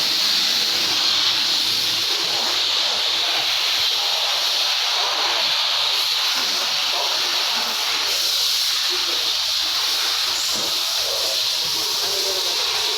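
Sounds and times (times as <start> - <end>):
steady hiss: 0.0 - 12.9.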